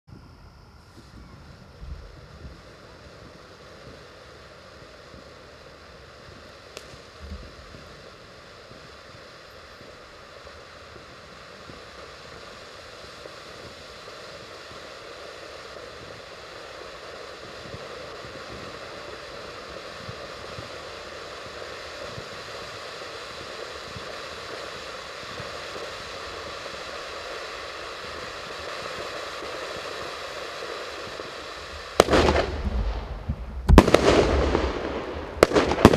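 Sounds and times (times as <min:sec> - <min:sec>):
firework fountain hissing: 0:00.1 - 0:35.9.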